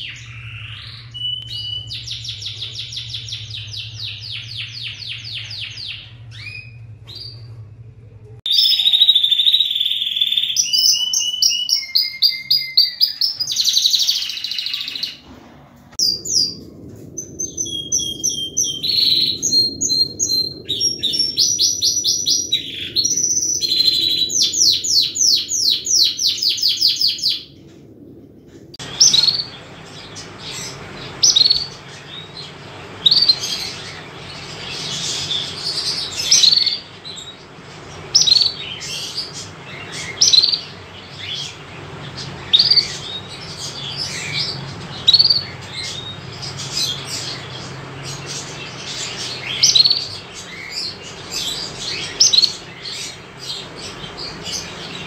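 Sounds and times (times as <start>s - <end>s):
canary singing trills: 0.0s - 7.7s, 8.4s - 15.3s, 16.0s - 27.7s, 28.8s - 55.0s
canary chirps: 0.0s - 27.7s, 28.7s - 55.0s
low background hum: 0.0s - 55.0s.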